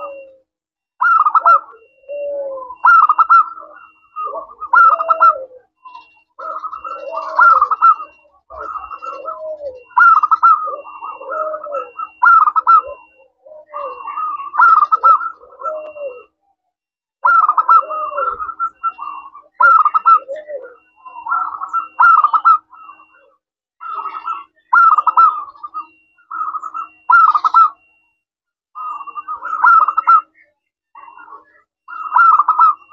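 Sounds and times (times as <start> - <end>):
dove cooing: 0.0 - 28.1, 28.8 - 30.4, 31.0 - 32.9.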